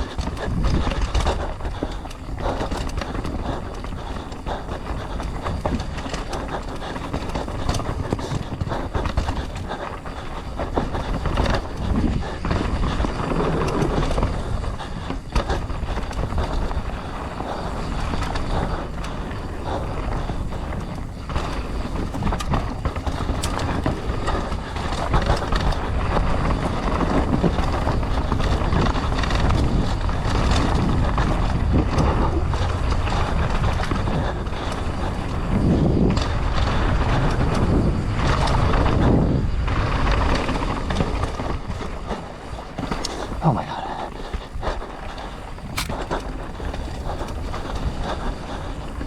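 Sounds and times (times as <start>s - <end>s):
bike chain and frame rattling: 0.0s - 49.0s
tyres over dirt and rock: 0.0s - 49.0s.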